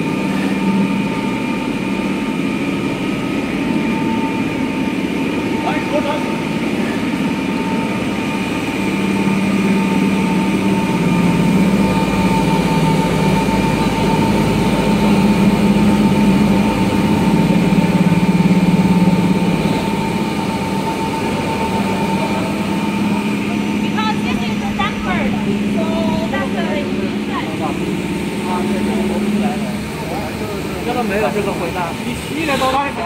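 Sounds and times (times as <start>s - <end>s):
machinery humming: 0.0s - 33.0s
machinery whine: 0.0s - 33.0s.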